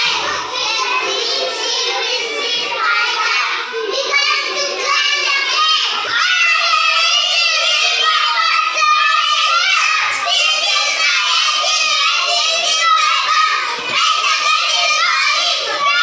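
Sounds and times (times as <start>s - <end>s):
children singing: 0.0s - 16.0s.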